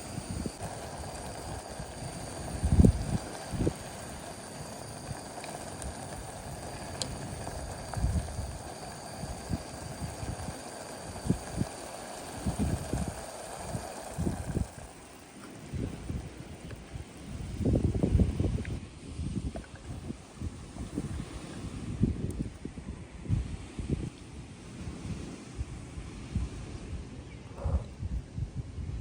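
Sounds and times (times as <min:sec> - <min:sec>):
wind buffeting microphone: 0:00.0 - 0:24.1.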